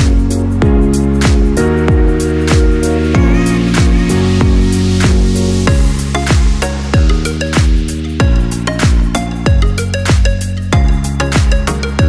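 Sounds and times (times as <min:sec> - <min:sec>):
deep kick drum: 0:00.0 - 0:11.7.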